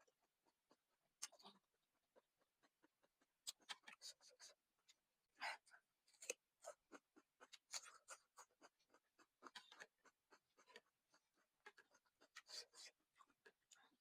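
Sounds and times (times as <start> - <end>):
chewing and slurping soup: 0.1 - 14.0.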